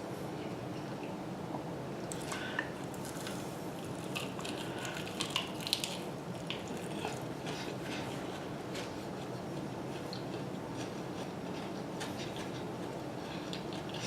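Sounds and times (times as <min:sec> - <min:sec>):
steady background hum: 0:00.0 - 0:14.0
chewing and biting food: 0:02.1 - 0:14.0.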